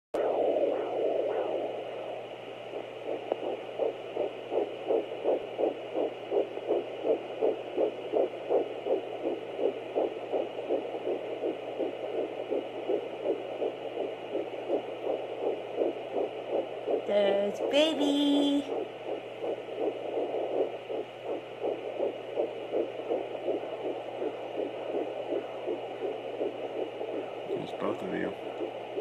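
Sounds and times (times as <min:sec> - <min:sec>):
rapid whooshing heartbeat pulse: 0:00.2 - 0:29.0
steady hum: 0:00.2 - 0:29.0.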